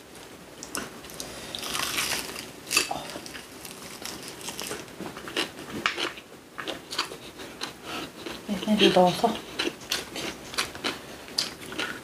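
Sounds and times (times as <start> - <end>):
crunchy food being chewed: 0.6 - 12.0.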